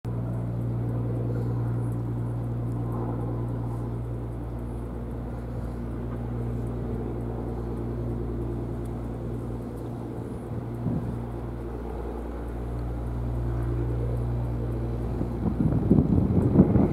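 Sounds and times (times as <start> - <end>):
low mechanical hum: 0.1 - 16.9.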